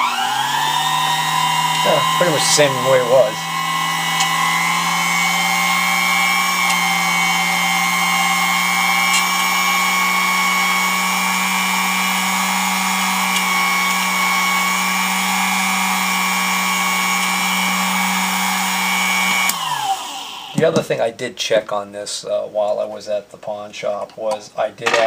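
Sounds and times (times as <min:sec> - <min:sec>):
drill press motor whine: 0:00.0 - 0:20.6.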